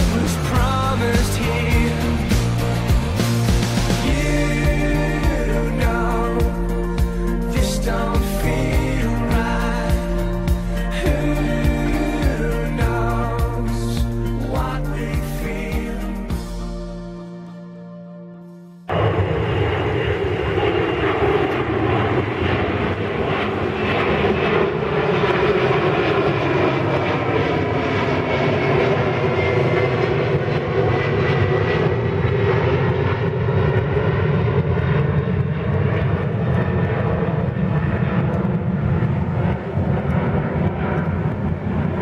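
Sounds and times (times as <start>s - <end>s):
jet engines roaring overhead: 0.0s - 16.3s, 18.8s - 42.0s.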